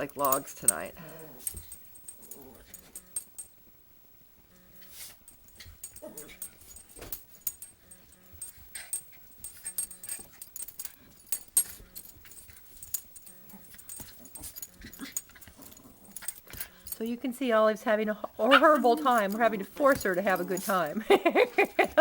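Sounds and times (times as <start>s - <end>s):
scuffling and clicking paws: 0.0s - 3.7s, 4.6s - 22.0s.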